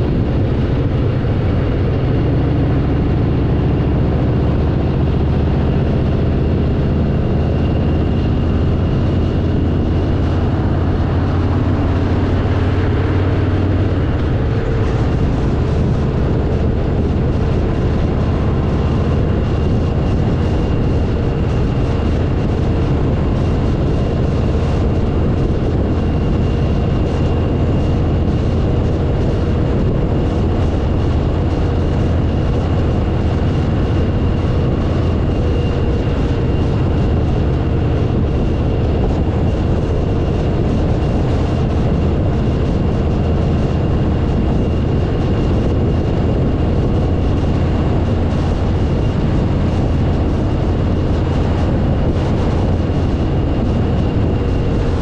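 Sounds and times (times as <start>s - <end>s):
motorcycle engine hum: 0.0s - 55.0s
wind and road noise: 0.0s - 55.0s.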